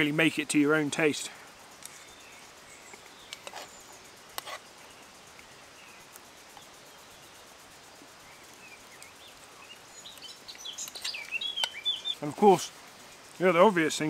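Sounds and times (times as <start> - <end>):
faint bird chirps: 1.4 - 13.5.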